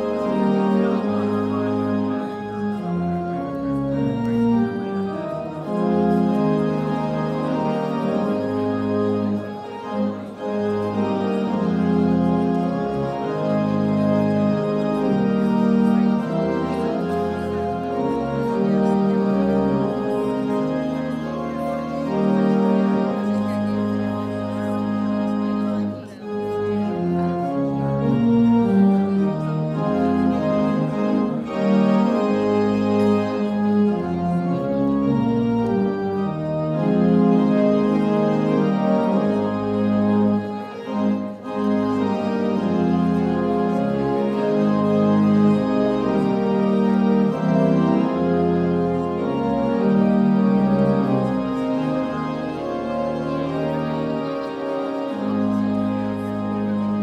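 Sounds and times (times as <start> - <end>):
organ playing slow held chords: 0.0 - 57.0.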